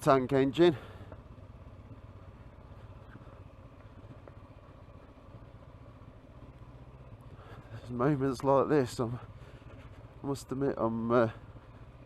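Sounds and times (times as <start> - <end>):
motorcycle engine running quietly: 0.0 - 12.0.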